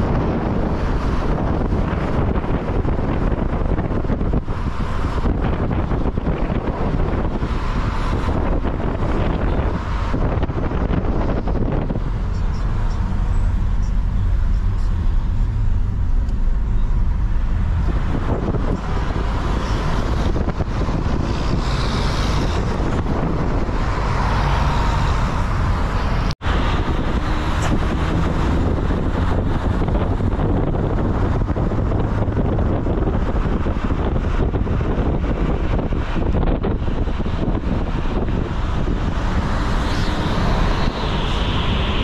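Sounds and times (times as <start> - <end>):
vehicle road noise rumble: 0.0 - 42.0
wind on microphone: 0.0 - 42.0.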